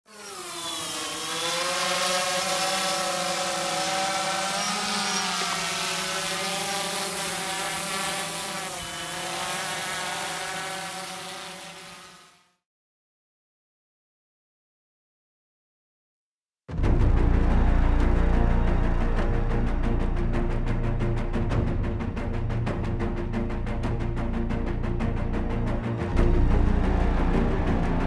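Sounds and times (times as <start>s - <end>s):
drone propellers buzzing: 0.1s - 12.4s, 16.9s - 28.0s.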